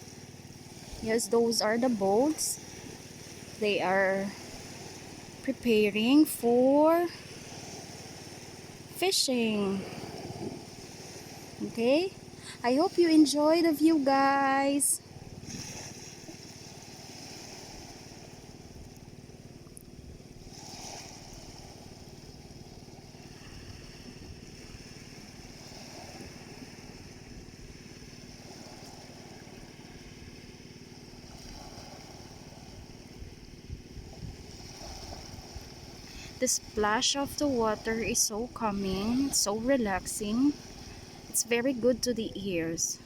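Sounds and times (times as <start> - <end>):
faint engine hum: 0.0 - 43.0
small waves splashing on shore: 0.0 - 43.0.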